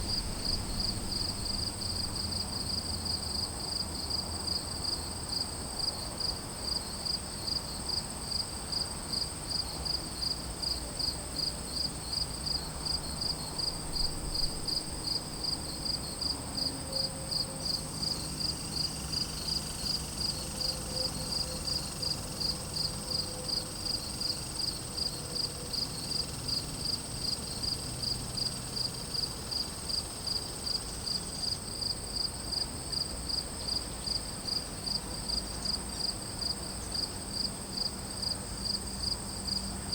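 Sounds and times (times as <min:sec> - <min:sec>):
crickets chirping: 0:00.0 - 0:08.0, 0:08.7 - 0:39.7.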